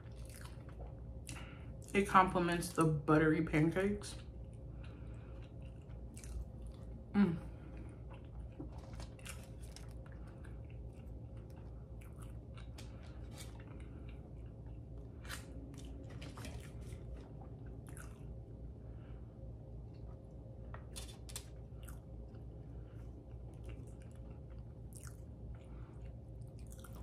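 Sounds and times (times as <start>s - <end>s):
close chewing: 0.0s - 2.0s, 4.1s - 18.4s, 20.9s - 27.0s.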